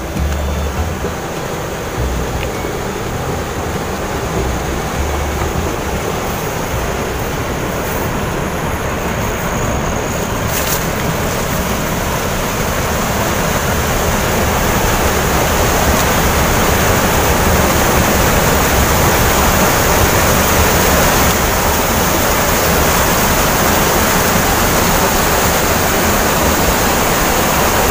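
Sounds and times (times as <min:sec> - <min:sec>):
water rushing over weir: 0:00.0 - 0:27.9.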